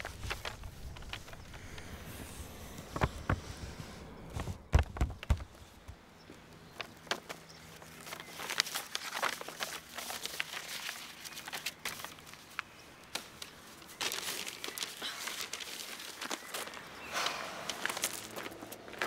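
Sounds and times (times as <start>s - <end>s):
stiff paper rustling and crinkling: 0.0s - 5.9s, 6.7s - 19.0s.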